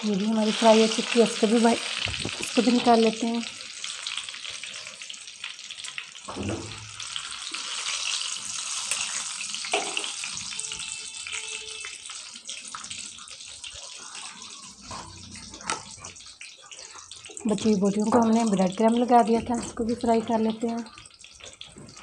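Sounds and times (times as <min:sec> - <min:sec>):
oil sizzling and crackling: 0:00.0 - 0:22.0.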